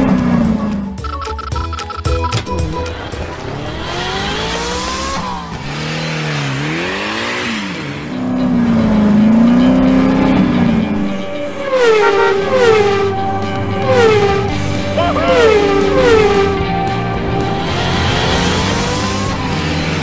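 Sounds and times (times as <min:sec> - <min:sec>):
race car engine revving: 0:02.3 - 0:20.0.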